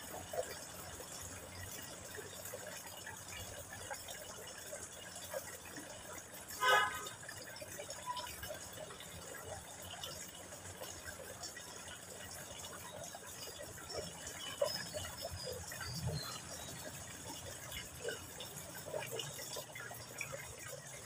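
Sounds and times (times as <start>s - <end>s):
water trickling into pond: 0.0s - 21.0s.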